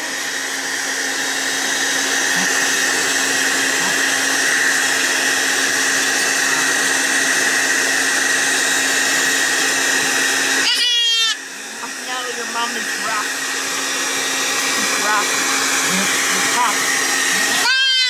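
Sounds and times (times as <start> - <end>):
electric fan whirring: 0.0 - 18.0.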